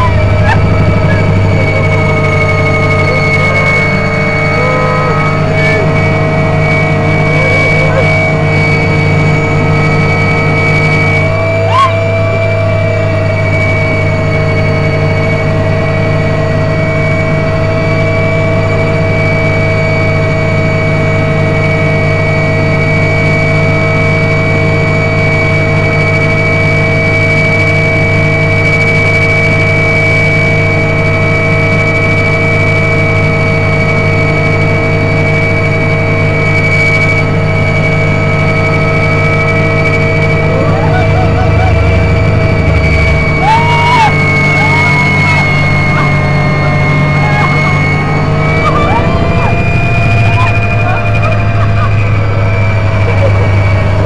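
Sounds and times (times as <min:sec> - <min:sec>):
helicopter engines and rotors drone: 0:00.0 - 0:54.0
steady high whine: 0:00.0 - 0:54.0.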